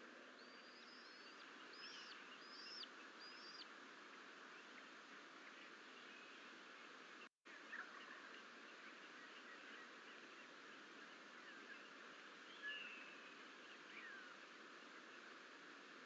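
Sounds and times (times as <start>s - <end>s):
steady hiss: 0.0s - 16.0s
faint bird chirps: 0.4s - 6.5s, 7.5s - 15.3s.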